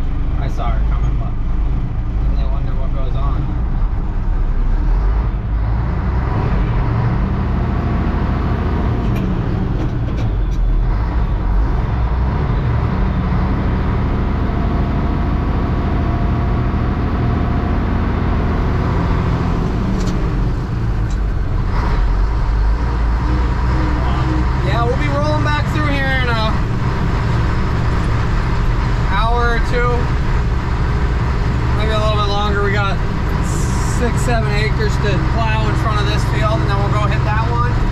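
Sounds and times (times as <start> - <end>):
vehicle engine and road noise: 0.0 - 37.9.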